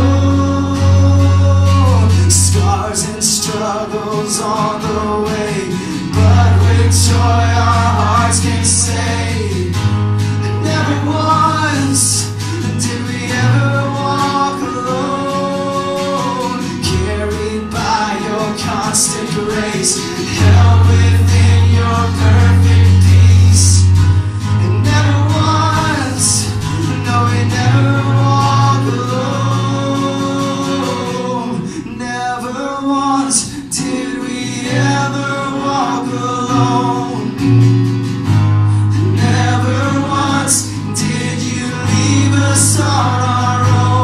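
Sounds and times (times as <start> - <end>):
people singing: 0.0 - 38.1, 38.7 - 44.0
worship band playing slow song: 0.0 - 44.0.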